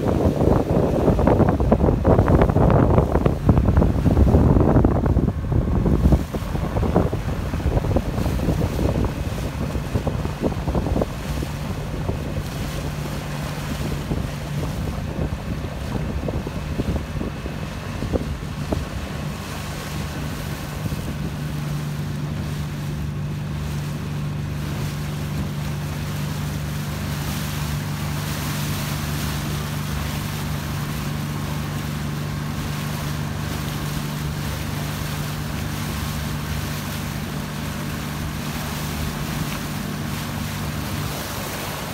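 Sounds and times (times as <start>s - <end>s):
motorboat engine running: 0.0s - 41.9s
water rushing along hull: 0.0s - 41.9s
wind buffeting microphone: 0.0s - 41.9s.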